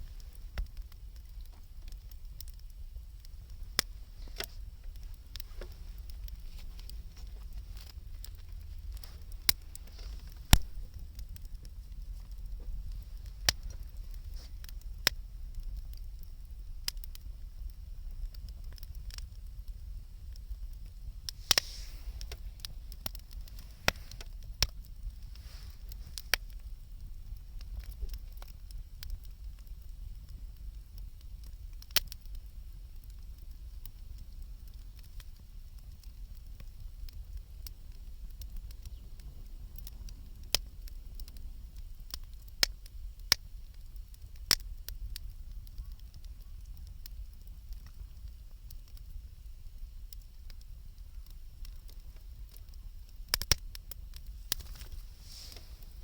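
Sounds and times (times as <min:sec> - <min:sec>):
campfire crackling and popping: 0:00.0 - 0:56.0
low fire rumble: 0:00.0 - 0:56.0.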